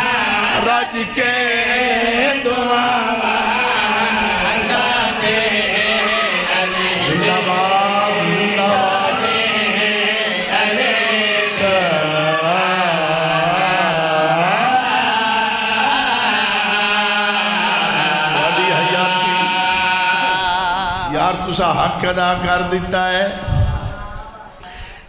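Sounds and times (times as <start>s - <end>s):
men chanting over a pa system: 0.0s - 24.6s.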